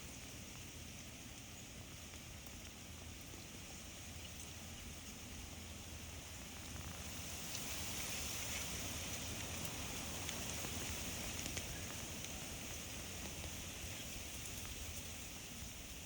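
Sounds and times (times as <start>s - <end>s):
forest ambience hiss: 0.0s - 16.0s.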